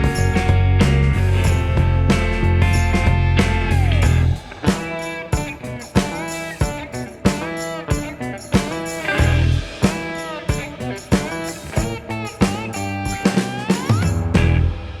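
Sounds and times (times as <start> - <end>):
guitar bending notes over beat: 0.0 - 15.0.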